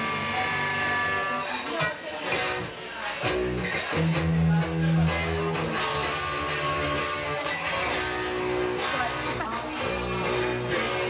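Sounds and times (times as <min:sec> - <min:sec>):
bass guitar: 0:00.0 - 0:11.0
drums: 0:00.0 - 0:11.0
electric guitar strumming chords: 0:00.0 - 0:11.0.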